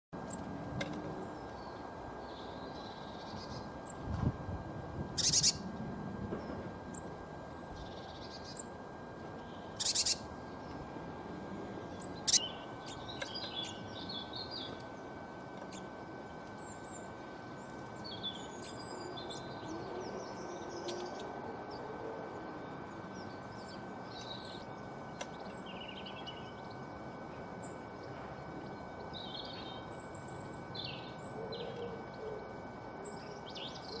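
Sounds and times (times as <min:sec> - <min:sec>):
outdoor background hum: 0:00.1 - 0:34.0
songbirds chirping: 0:00.2 - 0:04.0, 0:05.1 - 0:34.0.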